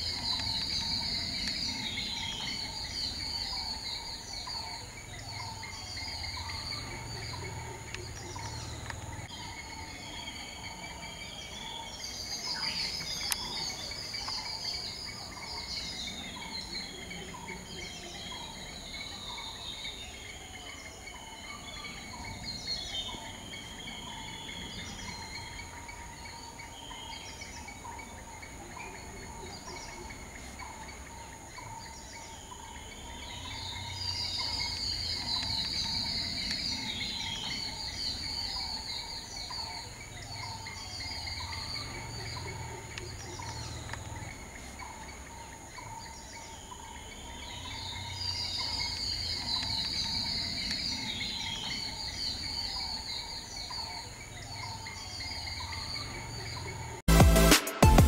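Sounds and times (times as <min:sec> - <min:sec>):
insects trilling: 0:00.0 - 0:57.0
bird chirps: 0:00.0 - 0:57.5.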